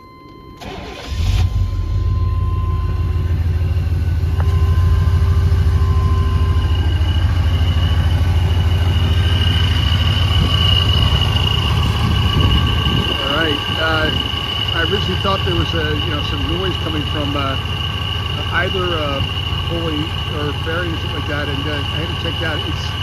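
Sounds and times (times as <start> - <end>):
truck engine idling: 0.0 - 23.0
thin high whine: 1.4 - 23.0.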